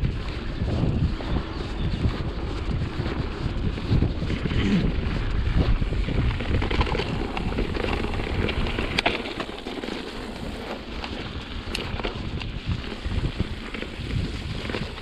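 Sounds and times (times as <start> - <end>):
bike rattling on dirt trail: 0.0 - 15.0
wind buffeting microphone: 0.0 - 15.0.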